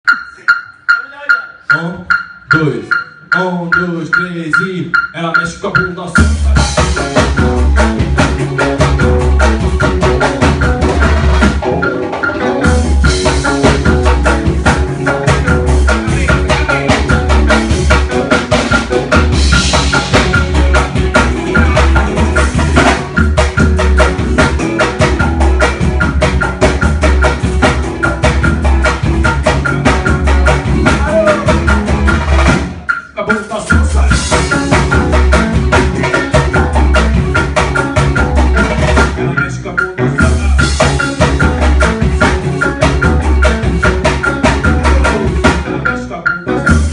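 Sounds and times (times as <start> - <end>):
instrumental band music: 0.0 - 46.9.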